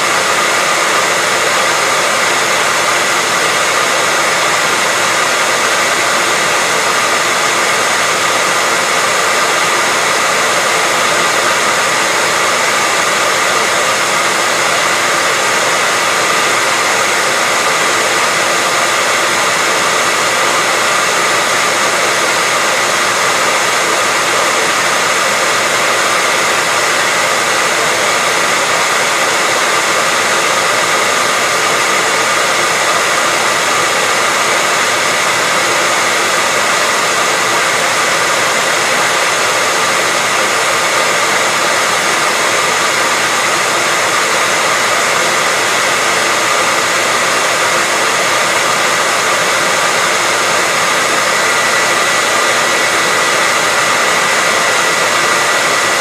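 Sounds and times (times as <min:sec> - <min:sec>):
hair dryer air rush: 0:00.0 - 0:56.0.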